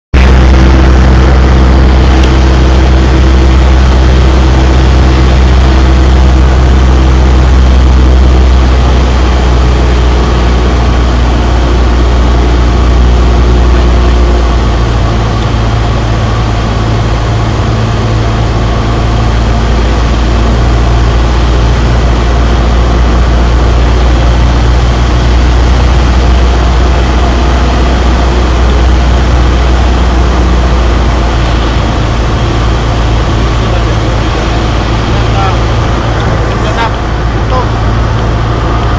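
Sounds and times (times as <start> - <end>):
propeller plane engine droning: 0.1 - 38.9.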